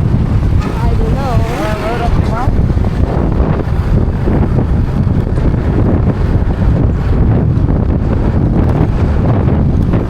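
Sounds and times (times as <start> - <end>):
vehicle rumble on road: 0.0 - 10.0
wind buffeting microphone: 0.0 - 10.0.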